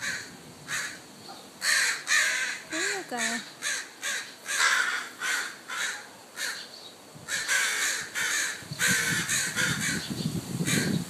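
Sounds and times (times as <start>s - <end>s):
crows cawing: 0.0s - 1.0s, 1.6s - 6.7s, 7.3s - 10.0s.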